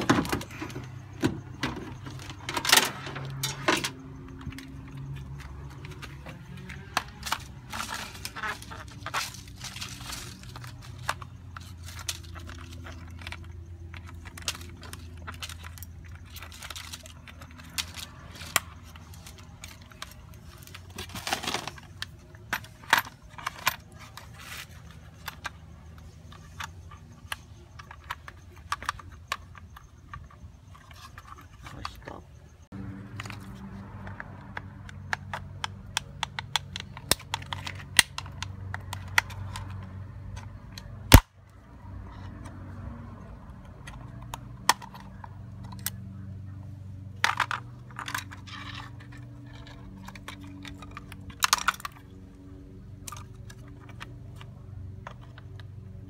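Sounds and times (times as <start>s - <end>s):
plastic and metal clicks and rattles: 0.0s - 32.1s, 33.1s - 41.3s, 43.2s - 56.0s.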